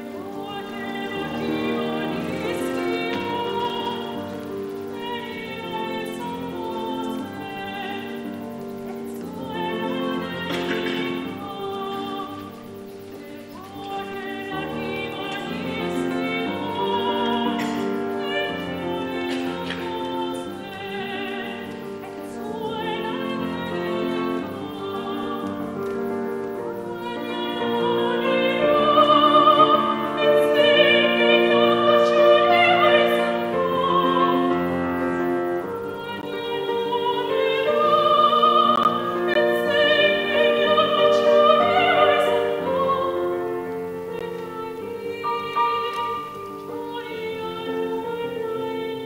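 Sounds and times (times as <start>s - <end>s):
grand piano: 0.0s - 49.0s
operatic soprano singing: 0.0s - 49.0s.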